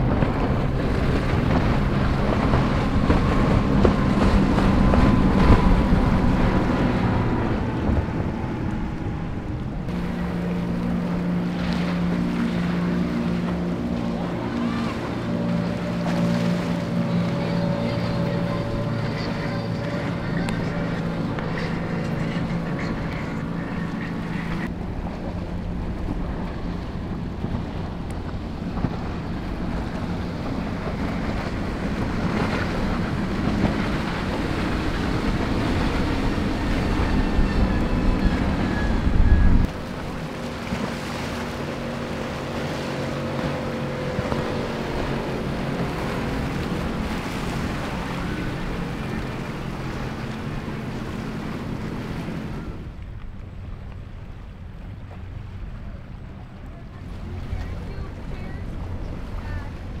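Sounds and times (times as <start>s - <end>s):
powerboat engines: 0.0s - 60.0s
rush of water and spray: 0.0s - 60.0s
wind on microphone: 0.0s - 60.0s.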